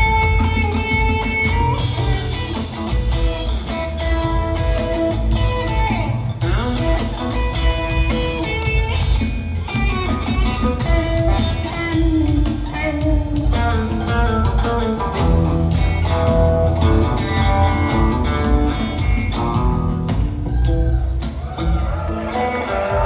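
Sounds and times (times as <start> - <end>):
bass and drums: 0.0 - 23.0
electric guitar: 0.0 - 23.0.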